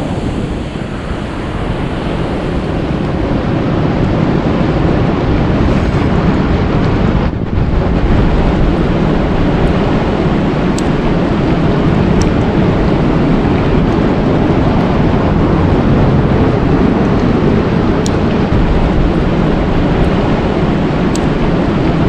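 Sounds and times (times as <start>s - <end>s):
low rushing water or wind: 0.0s - 22.0s.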